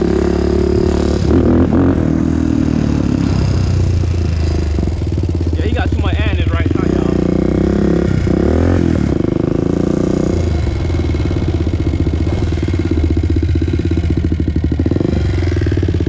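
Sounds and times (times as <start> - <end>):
quad engine idling and revving: 0.0 - 16.0.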